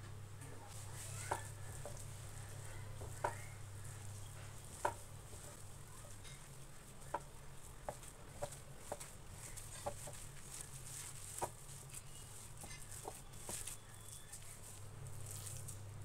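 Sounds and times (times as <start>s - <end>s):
low steady hum: 0.0s - 16.0s
hand squishing wet mixture: 0.4s - 16.0s.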